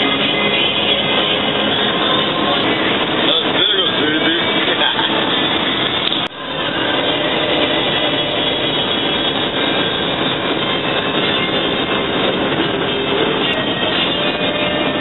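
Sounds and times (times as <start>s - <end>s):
tyre and wind noise in car: 0.0s - 15.0s.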